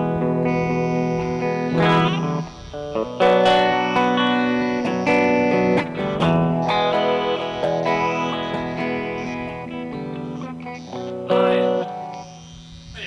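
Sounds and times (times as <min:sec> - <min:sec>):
electric guitar chords ringing: 0:00.0 - 0:13.0.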